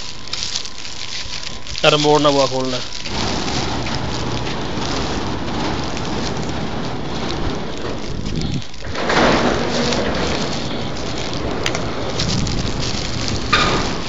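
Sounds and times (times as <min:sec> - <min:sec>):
electric gate opener rushing: 0:00.0 - 0:14.0.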